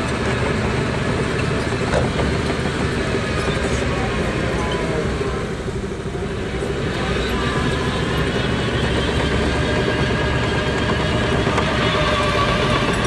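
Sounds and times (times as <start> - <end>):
bulldozer diesel engine rumble: 0.0 - 13.0.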